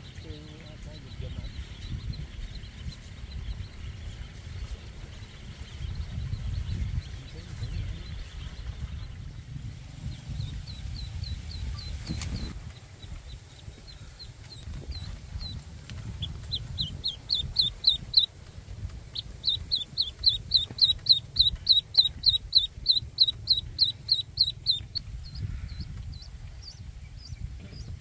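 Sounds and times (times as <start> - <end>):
duckling peeping: 0.0 - 9.3, 10.3 - 28.0
low rumble: 0.0 - 28.0.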